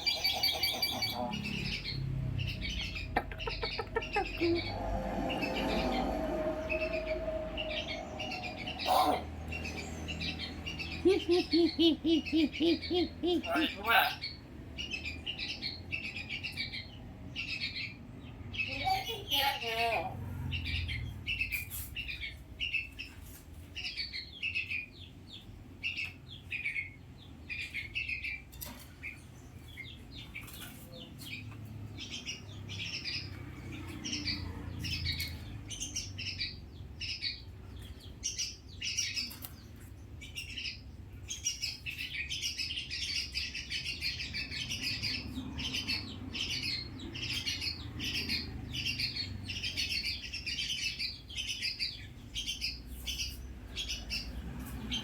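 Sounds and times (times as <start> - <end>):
myna bird chirping: 0.0 - 55.0.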